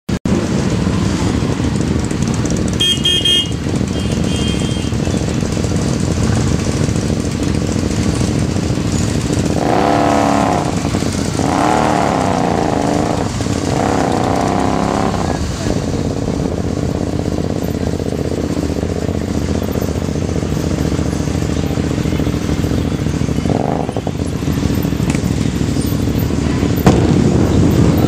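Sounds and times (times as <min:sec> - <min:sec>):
motorcycle engines revving: 0:00.2 - 0:28.0
motorcycle engines idling: 0:00.3 - 0:28.0.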